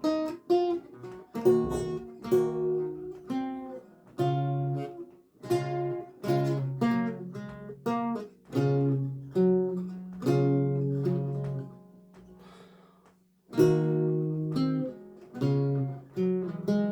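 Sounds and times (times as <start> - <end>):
solo lute music: 0.0 - 16.9.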